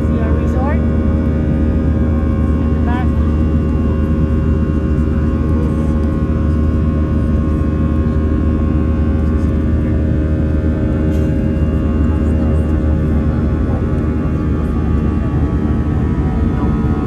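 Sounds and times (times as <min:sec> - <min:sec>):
jet engine drone: 0:00.0 - 0:17.0
steady hum tones: 0:00.0 - 0:17.0.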